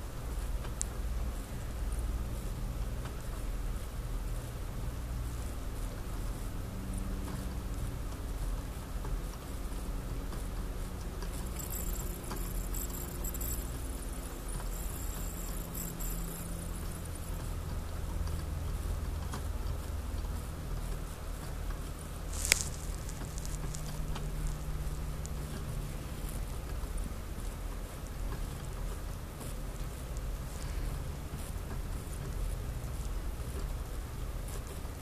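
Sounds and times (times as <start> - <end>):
low background rumble: 0.0 - 35.0
faint ticks: 0.6 - 2.2, 7.2 - 35.0.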